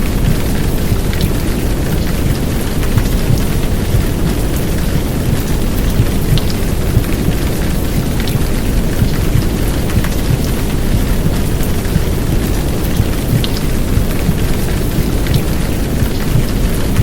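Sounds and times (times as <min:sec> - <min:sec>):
heavy rain hiss: 0:00.0 - 0:17.0
muffled heartbeat: 0:00.0 - 0:17.0
rushing rumble: 0:00.0 - 0:17.0.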